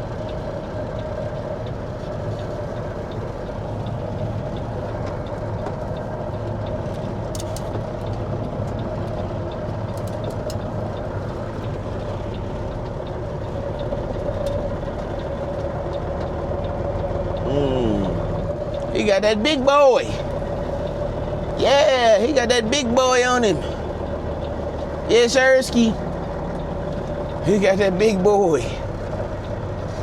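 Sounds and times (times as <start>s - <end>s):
diesel truck engine idling: 0.0s - 30.0s.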